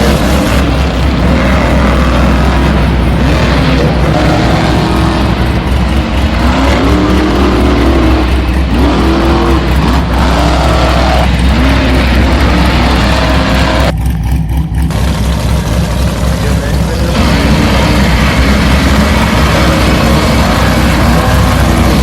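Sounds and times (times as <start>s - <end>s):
rumble of driving on dirt: 0.0s - 22.0s.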